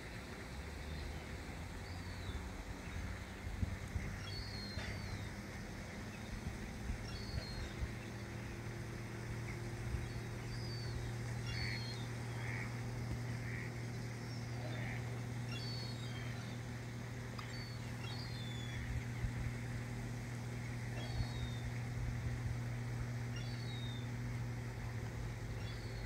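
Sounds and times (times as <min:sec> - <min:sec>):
low mechanical hum: 0:00.0 - 0:26.0
birds chirping: 0:00.8 - 0:26.0.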